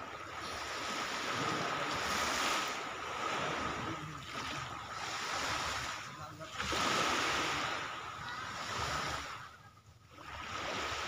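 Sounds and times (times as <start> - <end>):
small waves washing on shore: 0.0 - 11.0
wind rumbling on microphone: 0.0 - 11.0.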